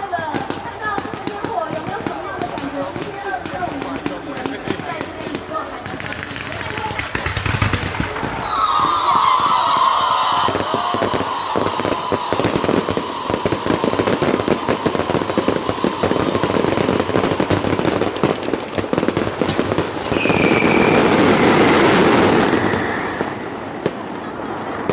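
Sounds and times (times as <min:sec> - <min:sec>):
fireworks crackling and popping: 0:00.0 - 0:24.9.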